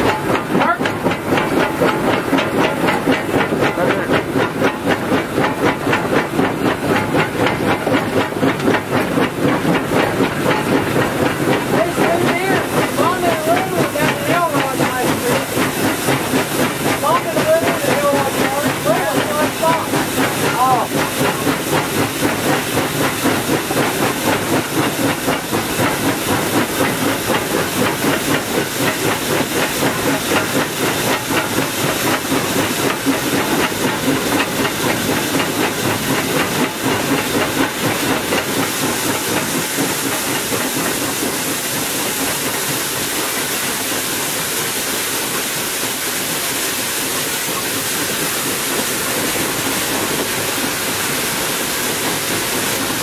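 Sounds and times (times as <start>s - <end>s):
steam hissing: 0.0s - 53.0s
steam locomotive pulsing beat: 0.0s - 53.0s.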